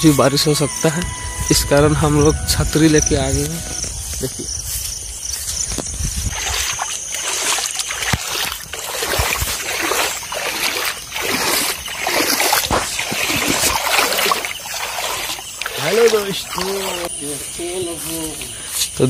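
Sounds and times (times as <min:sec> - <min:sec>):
footsteps splashing through water: 0:03.3 - 0:19.0.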